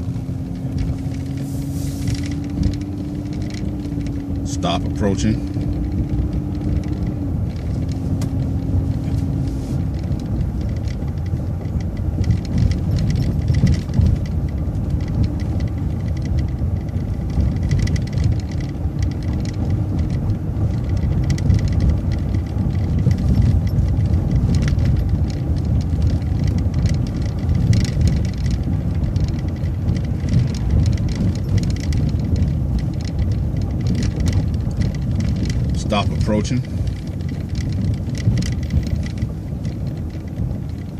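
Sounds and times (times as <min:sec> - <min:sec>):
bus engine and road rumble: 0:00.0 - 0:40.9
light clicks and rattles: 0:00.0 - 0:40.9.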